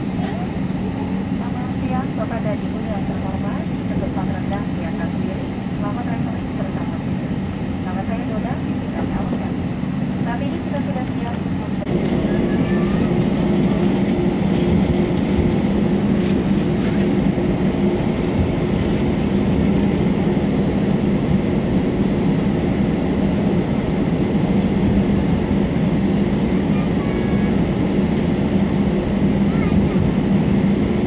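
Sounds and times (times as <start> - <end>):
jet engines and cabin air: 0.0 - 31.0.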